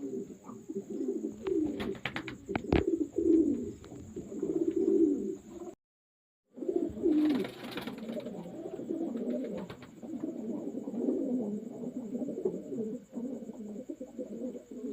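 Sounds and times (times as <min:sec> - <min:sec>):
pigeons cooing: 0:00.0 - 0:05.8, 0:06.5 - 0:14.9.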